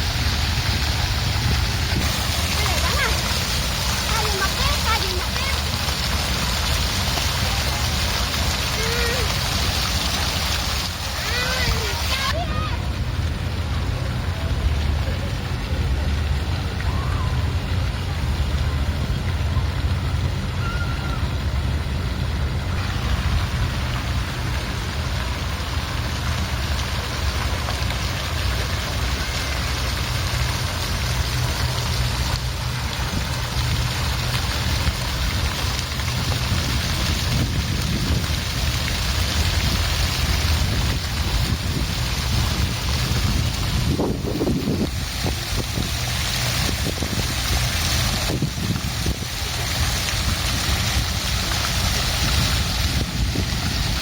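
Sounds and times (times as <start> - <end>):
low rumble: 0.0 - 54.0
water fountain splashing: 0.0 - 54.0.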